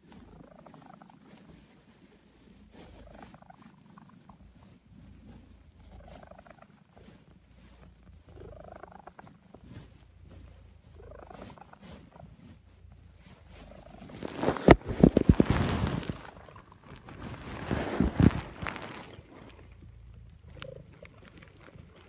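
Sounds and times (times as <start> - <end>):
cat purring: 0.0 - 22.0
loud rustling crackle: 0.1 - 22.0.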